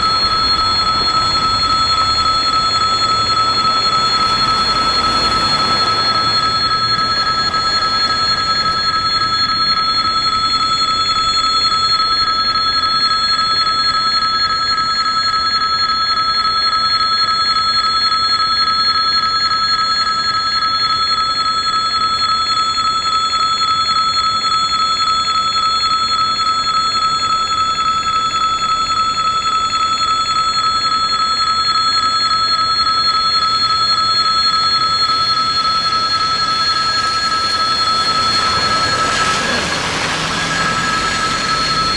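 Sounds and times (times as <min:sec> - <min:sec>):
level-crossing warning bell: 0:00.0 - 0:41.9.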